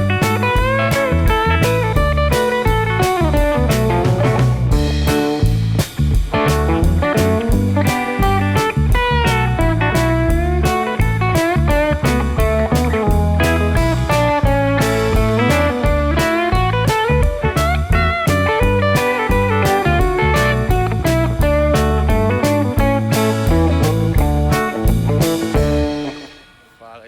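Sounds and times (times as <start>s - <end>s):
electric and slide guitar: 0.0s - 26.4s
steady drum beat: 0.0s - 27.0s.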